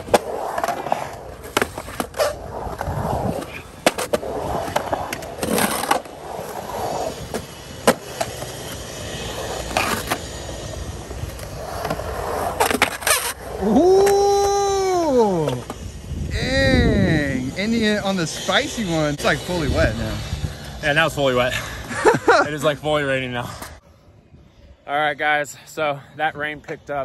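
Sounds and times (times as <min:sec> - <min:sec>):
skateboard wheels rumbling on concrete: 0:00.0 - 0:23.8.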